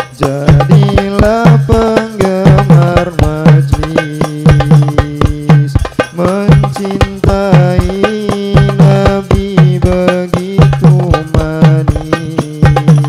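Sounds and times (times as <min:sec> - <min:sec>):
hand drums beating: 0:00.0 - 0:13.0
men singing through microphones: 0:00.0 - 0:13.0.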